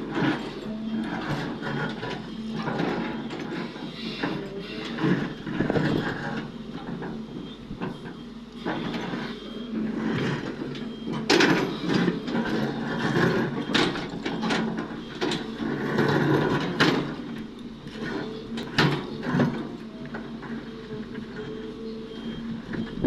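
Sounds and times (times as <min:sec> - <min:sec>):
rattling scrapes of rock and steel: 0:00.0 - 0:21.5
diesel engine running: 0:00.0 - 0:23.0.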